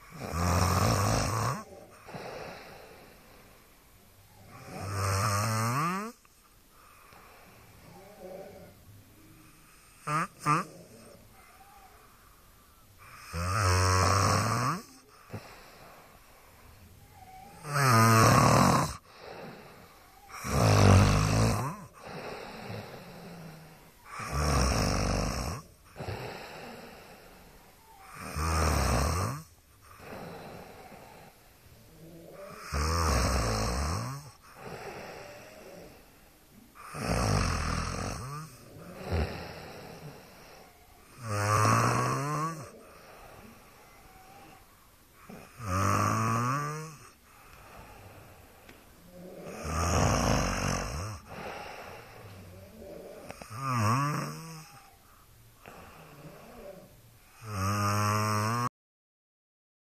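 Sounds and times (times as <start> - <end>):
person snoring: 0.0 - 3.6, 4.3 - 11.9, 13.0 - 55.0, 55.6 - 58.7
quiet breathing: 0.0 - 58.1.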